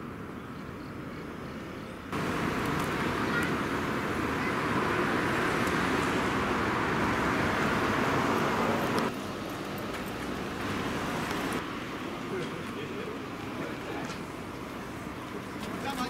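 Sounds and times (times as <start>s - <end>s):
quiet outdoor background: 0.0s - 16.0s
road traffic passing cars: 0.0s - 16.0s.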